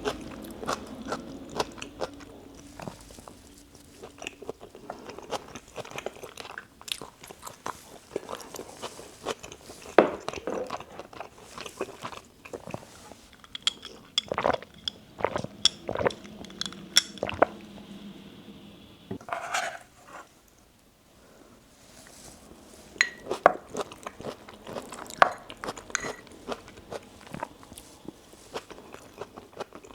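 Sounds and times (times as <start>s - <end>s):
crunchy wet chewing: 0.0s - 17.6s, 23.1s - 29.9s.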